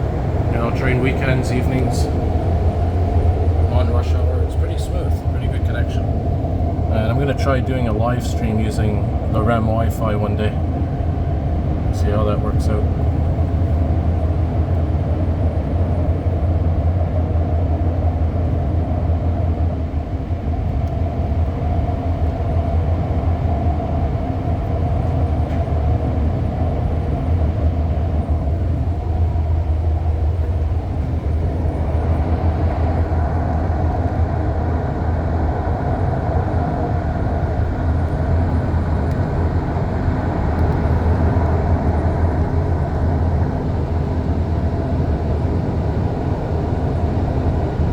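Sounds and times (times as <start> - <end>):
high motor whine: 0.0 - 47.9
train wheels and motors rumbling: 0.0 - 47.9.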